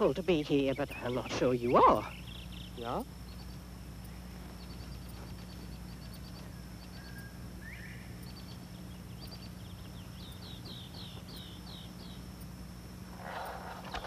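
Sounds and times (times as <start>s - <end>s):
birds chirping: 0.0s - 14.0s
descending bird notes: 0.0s - 14.0s
steady low hum: 0.0s - 14.0s.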